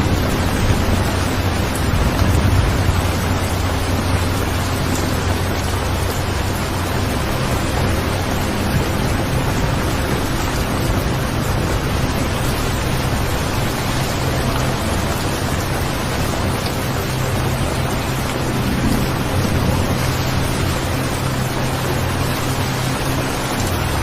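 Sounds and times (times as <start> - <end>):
low rumble: 0.0 - 24.0
steady rain hiss: 0.0 - 24.0.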